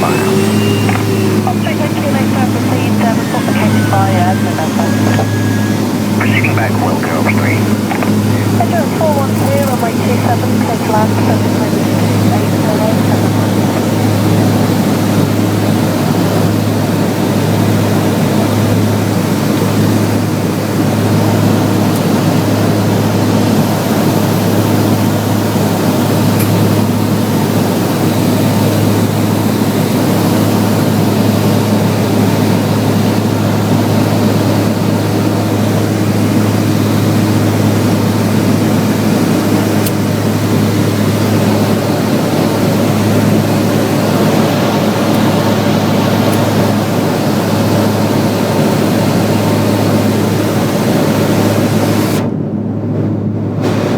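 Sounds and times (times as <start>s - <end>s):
propeller aircraft engines droning: 0.0s - 53.9s.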